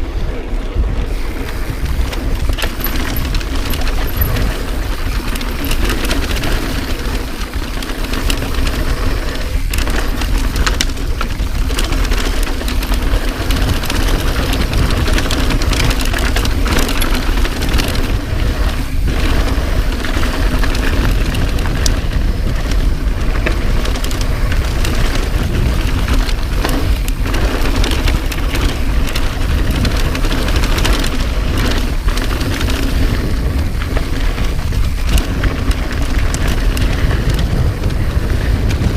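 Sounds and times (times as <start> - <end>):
bike knocks and rattles: 0.0 - 38.9
wind rush: 0.0 - 38.9.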